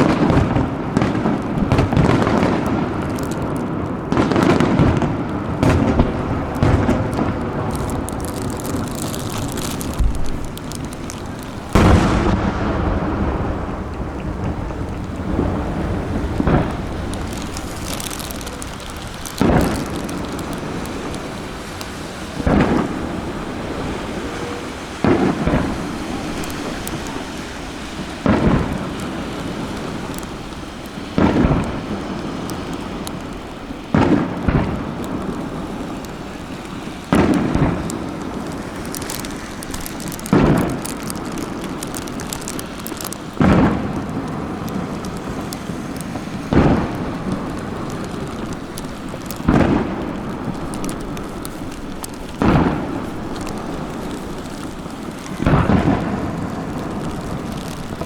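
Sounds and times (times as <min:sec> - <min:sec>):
continuous hiss: 0:00.0 - 0:58.0
firework shells booming: 0:00.0 - 0:58.0.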